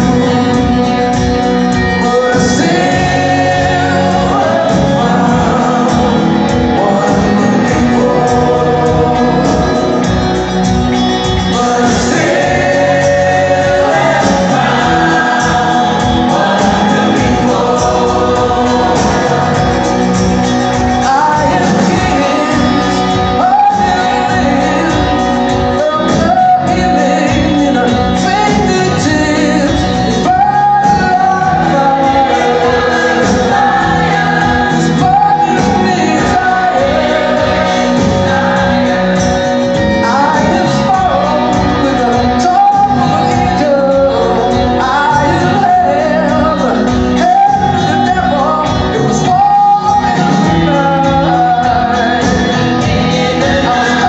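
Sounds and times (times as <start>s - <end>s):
choir singing: 0.0s - 54.0s
live band playing: 0.0s - 54.0s.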